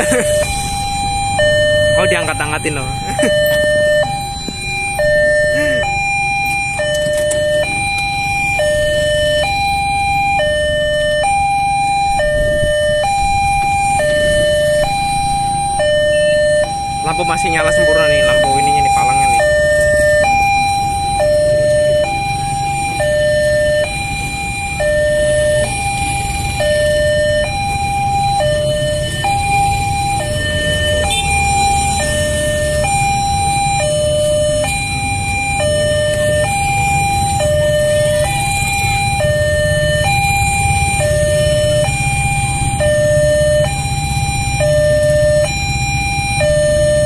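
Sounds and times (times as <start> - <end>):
two-tone crossing alarm: 0.0 - 47.0.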